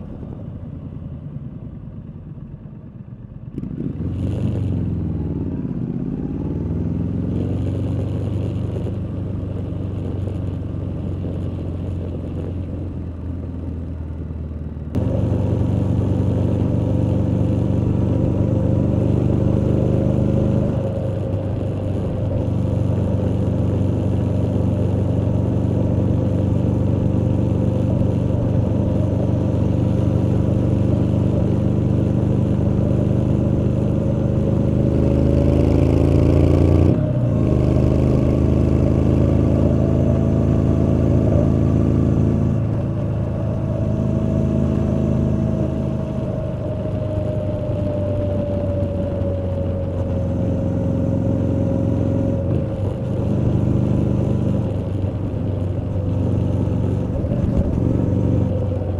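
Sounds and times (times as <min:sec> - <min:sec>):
motorcycle exhaust accelerating: 0:00.0 - 0:58.9.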